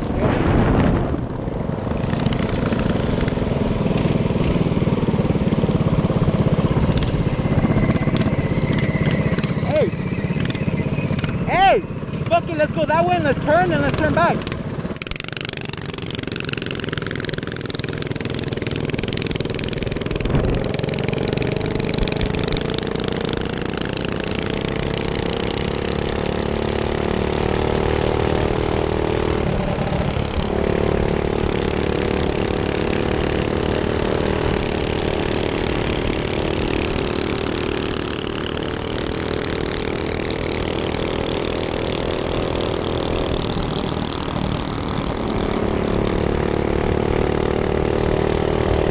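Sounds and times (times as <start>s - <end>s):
minibike engine running: 1.3s - 48.9s.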